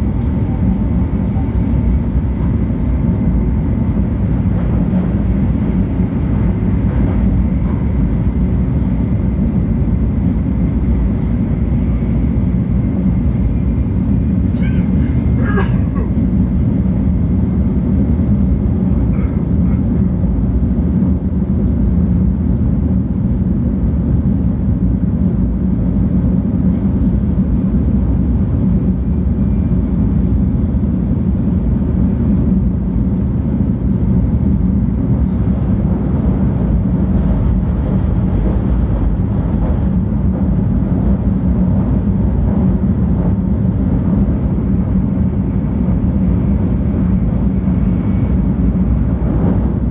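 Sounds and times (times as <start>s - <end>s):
train interior rumble: 0.0s - 49.9s.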